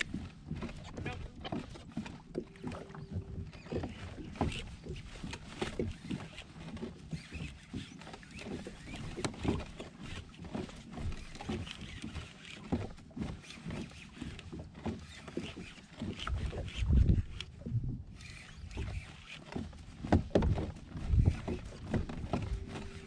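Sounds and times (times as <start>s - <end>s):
water splashing against kayak hull: 0.0s - 23.0s.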